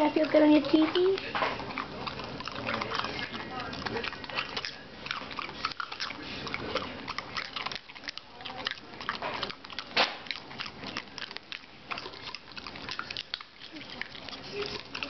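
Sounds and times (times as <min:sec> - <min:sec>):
dog crunching ice cube: 0:00.0 - 0:15.0.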